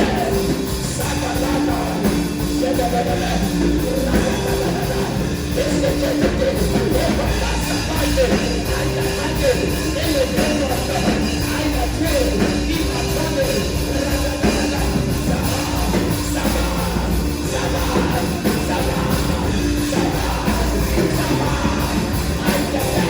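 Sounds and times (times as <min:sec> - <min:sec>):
band playing worship music: 0:00.0 - 0:23.0
voices singing: 0:00.0 - 0:23.0.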